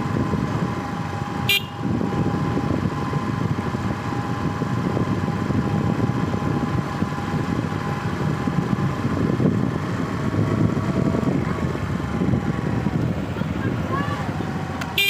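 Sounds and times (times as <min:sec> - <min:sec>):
vehicle rumble with road noise: 0:00.0 - 0:15.0.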